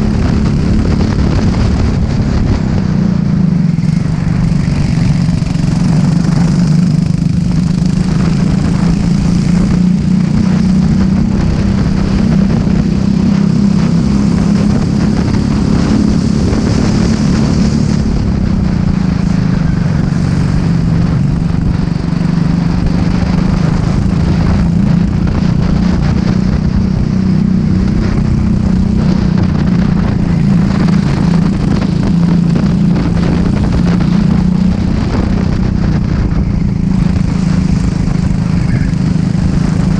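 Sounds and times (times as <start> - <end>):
racing kart engine drone: 0.0 - 39.9.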